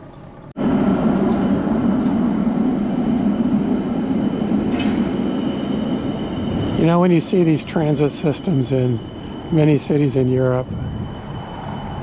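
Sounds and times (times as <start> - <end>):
tram rolling on rails: 0.0 - 12.0
faint high whine: 0.6 - 12.0.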